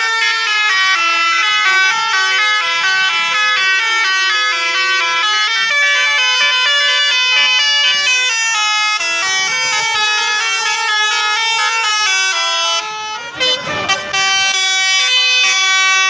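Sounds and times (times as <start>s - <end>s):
musical air horn playing a tune: 0.0s - 16.0s.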